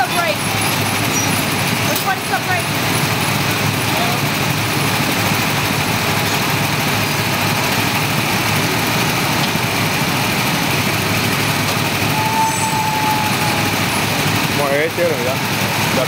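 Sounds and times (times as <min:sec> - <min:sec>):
go-kart engines running: 0:00.0 - 0:16.0.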